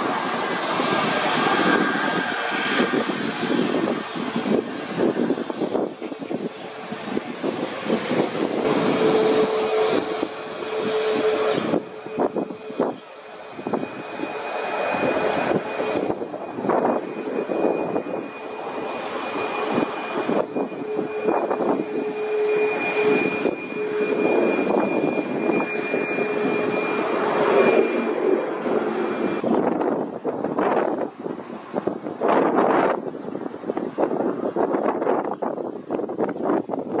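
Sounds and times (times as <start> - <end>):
high engine whine: 0.0 - 37.0
jet engines roaring: 0.0 - 37.0.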